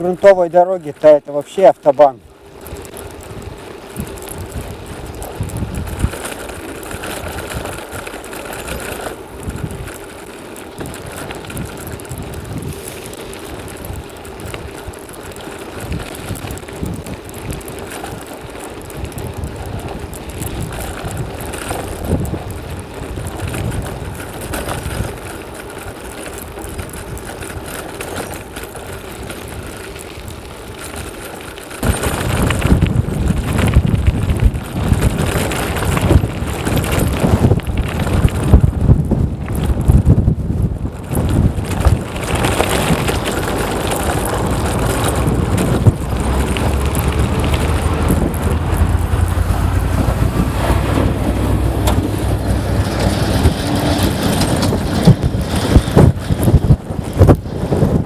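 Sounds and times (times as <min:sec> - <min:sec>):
bicycle rolling and drivetrain noise: 0:00.0 - 0:58.0
wind gusting on microphone: 0:00.0 - 0:58.0.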